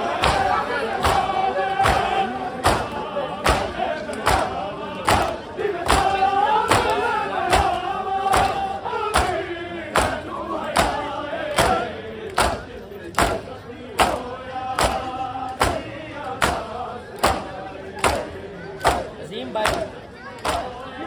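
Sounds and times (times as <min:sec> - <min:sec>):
group chanting a mourning lament: 0:00.0 - 0:21.0.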